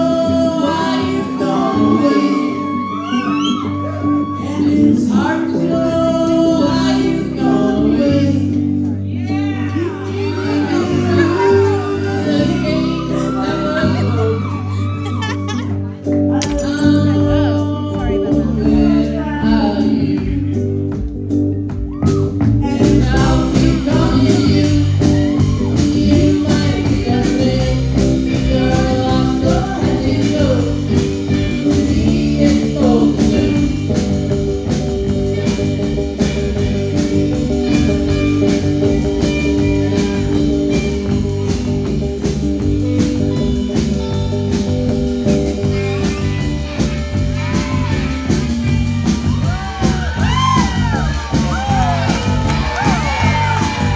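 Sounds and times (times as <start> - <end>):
garage rock band playing: 0.0 - 53.9
person singing: 0.0 - 53.9.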